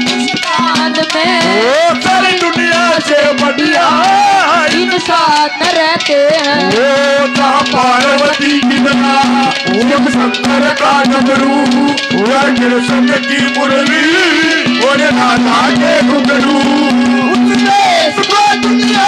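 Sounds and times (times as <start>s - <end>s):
hand drum beating: 0.0s - 19.0s
sliding melody line: 0.0s - 19.0s.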